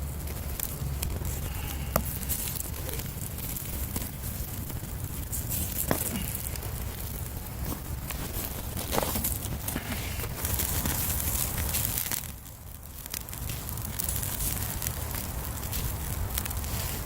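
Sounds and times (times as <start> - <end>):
campfire crackling: 0.0 - 17.0
fire popping: 0.0 - 17.0.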